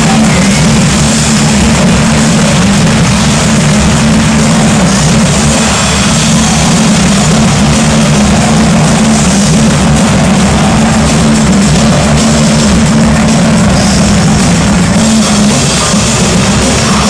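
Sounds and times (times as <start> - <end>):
distorted rumble from sound system: 0.0 - 17.0
rock music: 0.0 - 17.0.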